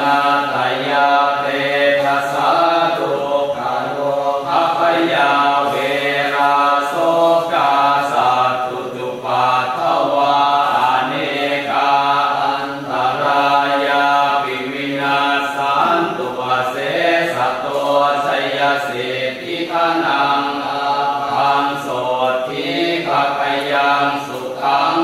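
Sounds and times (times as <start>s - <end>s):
voices chanting in monotone: 0.0s - 25.0s.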